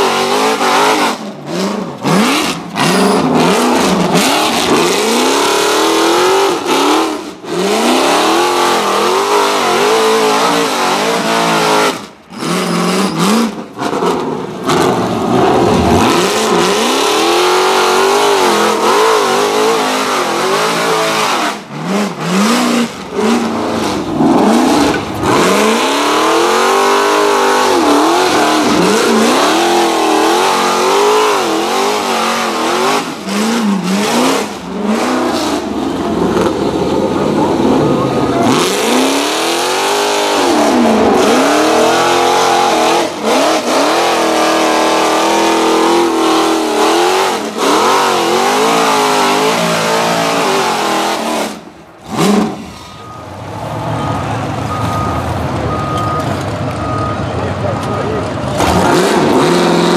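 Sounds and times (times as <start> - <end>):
buggy engine revving: 0.0 - 54.7, 56.2 - 59.9.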